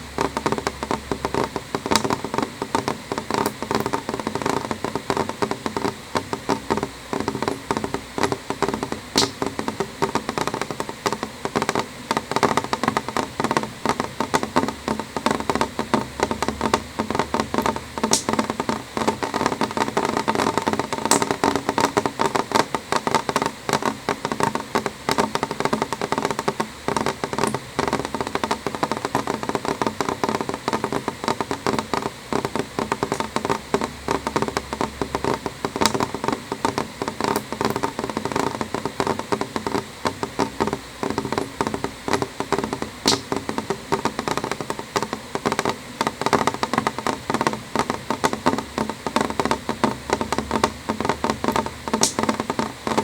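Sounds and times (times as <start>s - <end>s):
rain patter on window glass: 0.0s - 53.0s.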